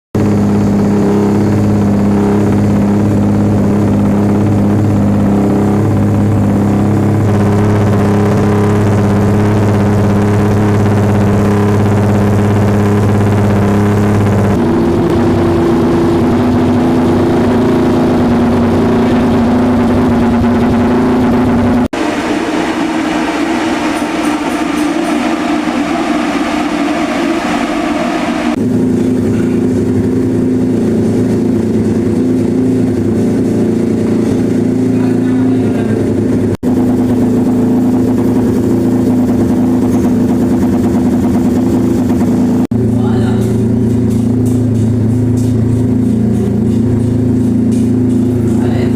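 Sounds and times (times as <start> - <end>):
motorcycle engine idling: 0.2 - 48.9.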